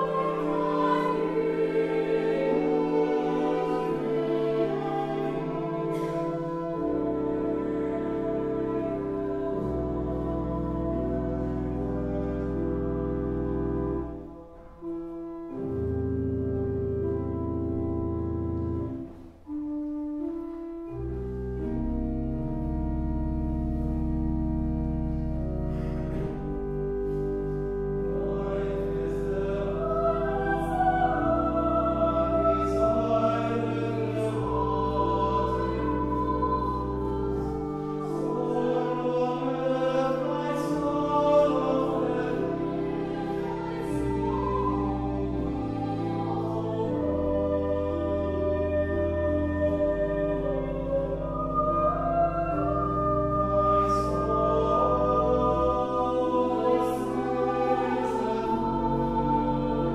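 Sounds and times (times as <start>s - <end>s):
choir singing: 0.0s - 16.4s, 25.7s - 59.9s
pipe organ chords: 0.0s - 59.9s.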